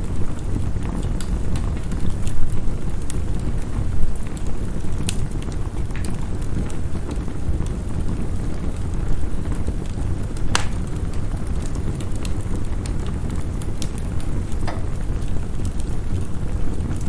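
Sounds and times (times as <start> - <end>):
low rumble of storm wind: 0.0 - 17.0
wood fire crackling and popping: 0.0 - 17.0.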